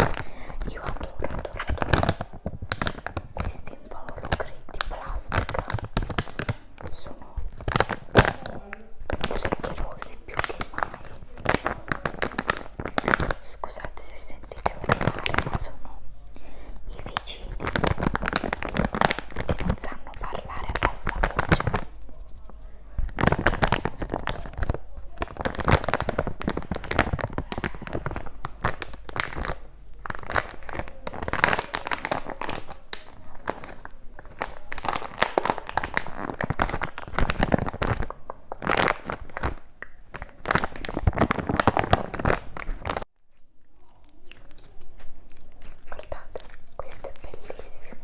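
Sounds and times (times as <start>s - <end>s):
packaging crinkling and tearing: 0.0s - 15.8s, 16.9s - 48.0s.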